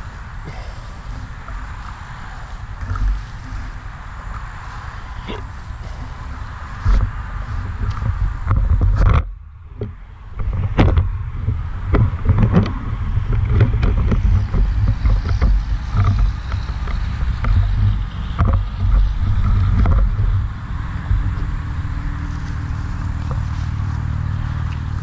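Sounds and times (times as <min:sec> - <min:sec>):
knocks and rustles in grass: 0:00.0 - 0:25.0
wind buffeting: 0:00.0 - 0:25.0.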